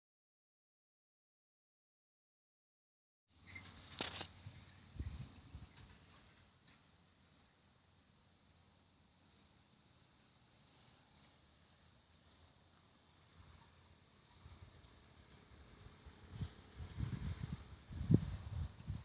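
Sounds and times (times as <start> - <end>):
cricket chirping: 3.4 - 19.0.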